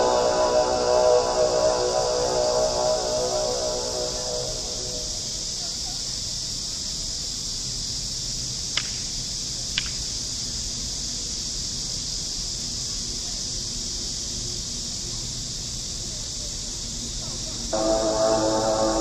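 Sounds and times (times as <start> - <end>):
high-pitched insect drone: 0.0 - 8.6, 10.2 - 19.0.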